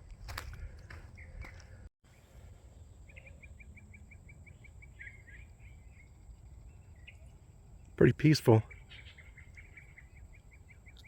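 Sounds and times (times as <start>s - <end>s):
songbird chirping: 0.8s - 11.0s.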